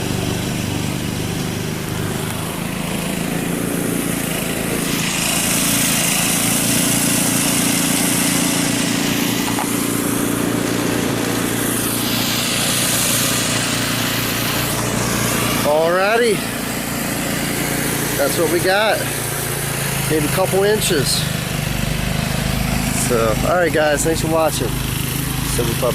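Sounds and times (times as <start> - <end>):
small engine running: 0.0 - 25.9
rushing hiss: 1.3 - 25.9.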